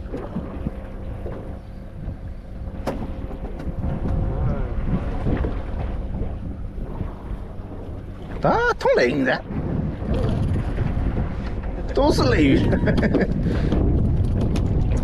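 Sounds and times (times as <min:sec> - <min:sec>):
steady low hum: 0:00.0 - 0:15.0
water moving against hull: 0:00.0 - 0:15.0
wind buffeting microphone: 0:00.0 - 0:15.0.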